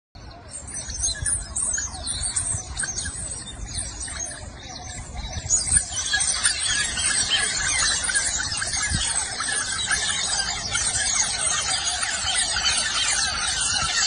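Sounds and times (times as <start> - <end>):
otters squealing and chirping: 0.2 - 14.0.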